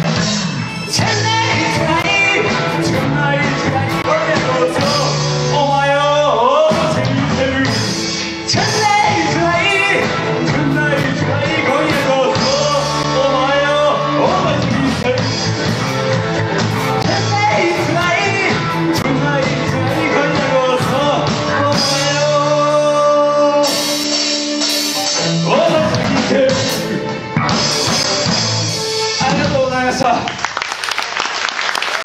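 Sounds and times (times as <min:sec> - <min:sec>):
live rock band playing: 0:00.0 - 0:30.1
man singing: 0:00.9 - 0:30.1.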